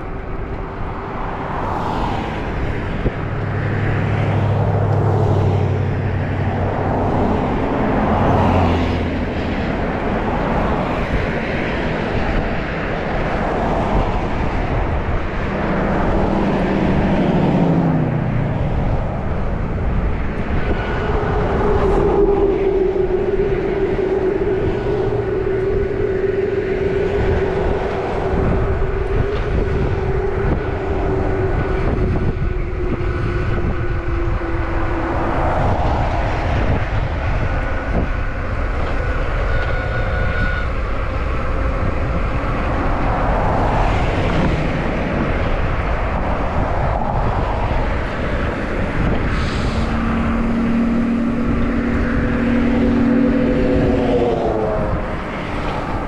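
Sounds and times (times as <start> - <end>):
engine drone: 0.0 - 56.0
steady rushing noise: 0.0 - 56.0
vehicles passing: 0.0 - 56.0.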